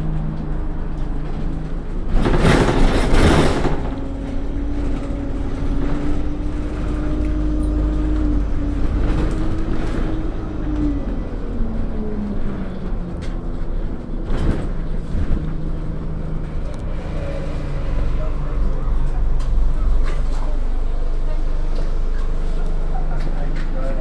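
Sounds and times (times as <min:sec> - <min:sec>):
bus engine rumble and whine: 0:00.0 - 0:24.0.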